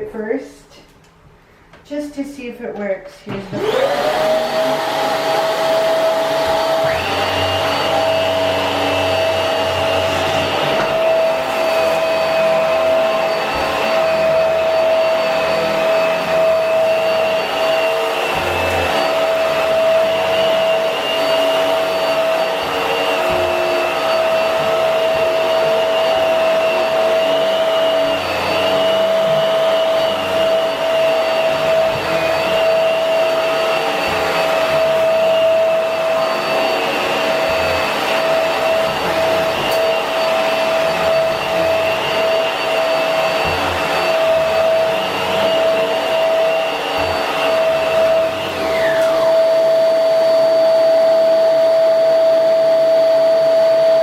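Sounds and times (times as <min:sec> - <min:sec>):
vacuum cleaner running: 0:03.2 - 0:54.0.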